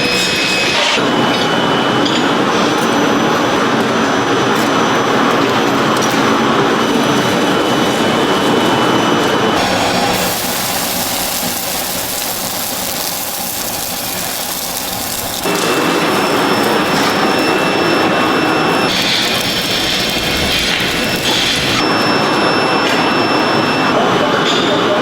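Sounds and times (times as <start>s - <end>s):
factory machinery noise: 0.0s - 25.0s.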